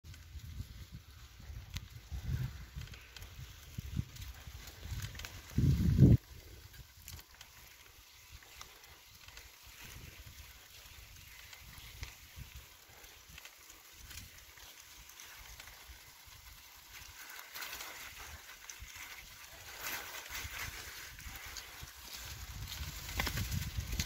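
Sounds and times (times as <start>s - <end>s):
bicycle tyres crunching through slush: 0.1s - 24.0s.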